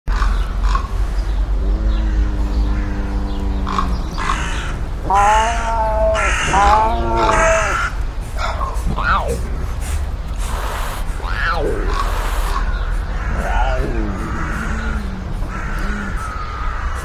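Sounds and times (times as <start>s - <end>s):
constant low rumble: 0.1s - 17.0s
sand cat calling: 0.3s - 17.0s.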